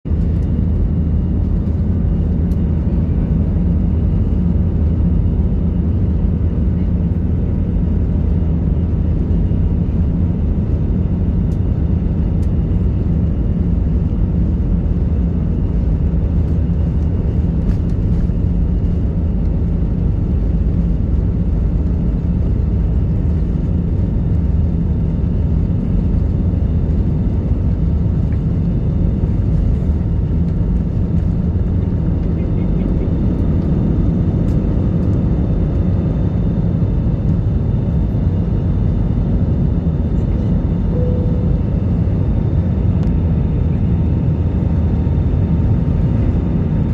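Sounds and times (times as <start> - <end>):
aircraft engines droning: 0.1 - 46.9.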